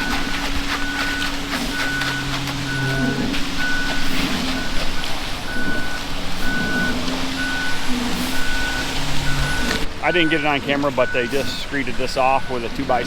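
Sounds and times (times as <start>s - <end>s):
backup alarm beeping: 0.0s - 13.0s
diesel engine running: 0.0s - 13.0s.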